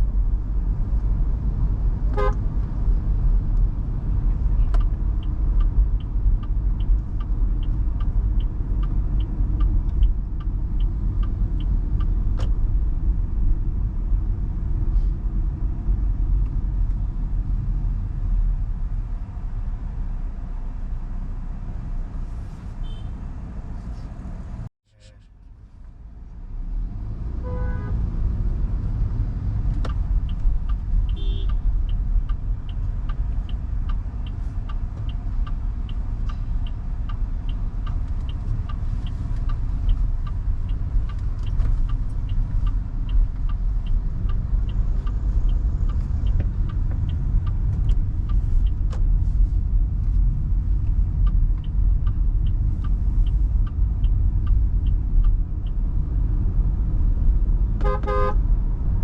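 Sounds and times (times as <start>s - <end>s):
turn signal ticking: 0.0s - 18.6s, 25.9s - 59.0s
car engine and road noise: 0.0s - 59.0s.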